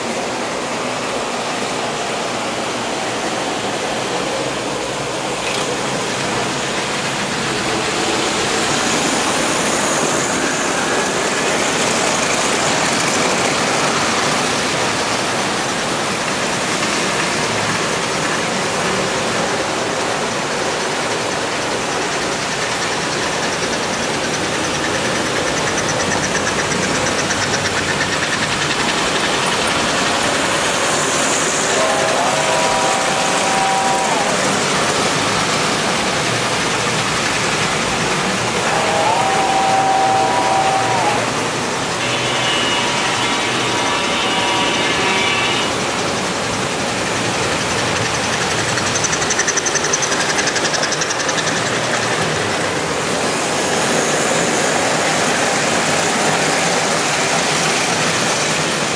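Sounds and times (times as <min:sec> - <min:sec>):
model train rolling on track: 0:00.0 - 0:58.9.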